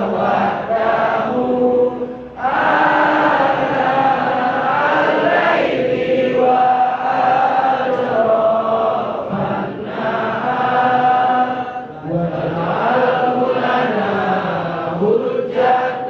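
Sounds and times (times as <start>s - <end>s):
boys chanting in unison: 0.0s - 16.0s.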